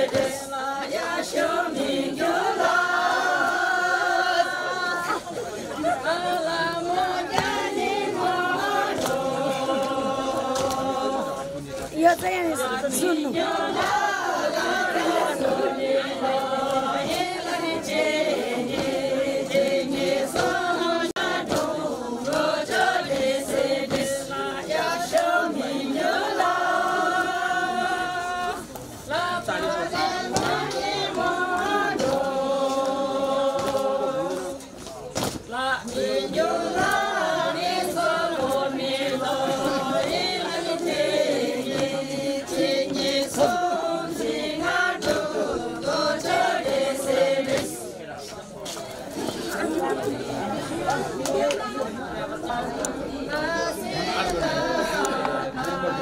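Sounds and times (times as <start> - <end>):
group singing unaccompanied: 0.0 - 56.0.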